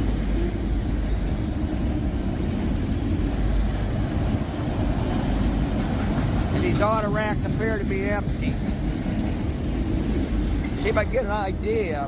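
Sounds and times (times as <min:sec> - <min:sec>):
freight train cars rolling past: 0:00.0 - 0:12.0
wind buffeting microphone: 0:00.0 - 0:12.0.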